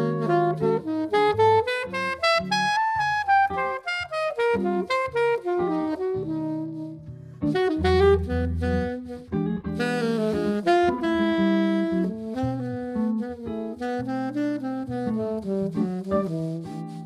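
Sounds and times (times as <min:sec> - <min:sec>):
alto saxophone jazz line: 0:00.0 - 0:17.0
jazz guitar accompaniment: 0:00.0 - 0:17.0.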